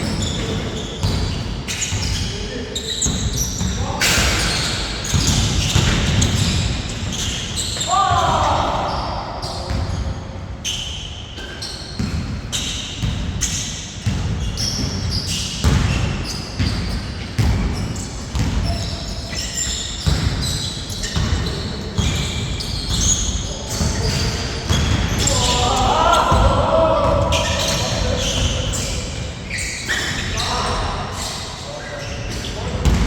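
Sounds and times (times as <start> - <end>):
basketball bouncing on court: 0.0 - 2.3, 3.0 - 10.1, 11.4 - 29.0, 32.4 - 33.0
sneakers squeaking on floor: 0.0 - 33.0.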